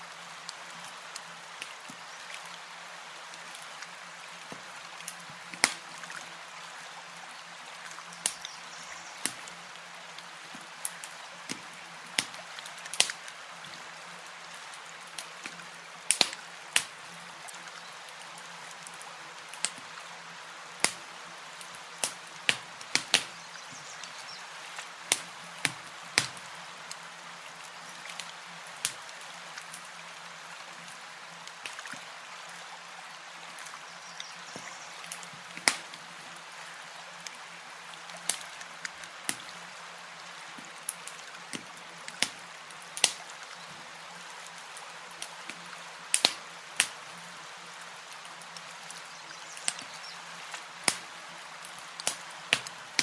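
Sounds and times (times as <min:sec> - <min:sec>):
campfire crackling: 0:00.2 - 0:32.1, 0:33.5 - 0:53.0.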